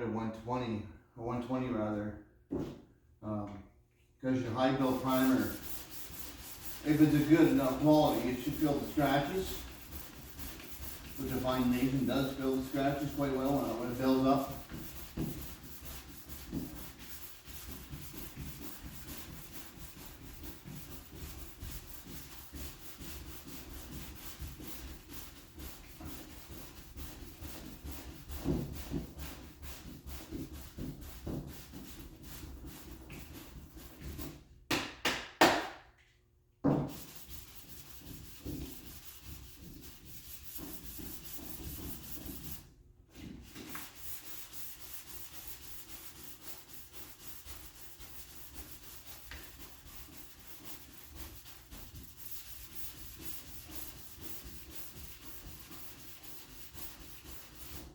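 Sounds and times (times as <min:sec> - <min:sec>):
sandpaper scratching on panel: 0:04.6 - 0:34.4, 0:36.9 - 0:42.7, 0:43.4 - 0:57.9.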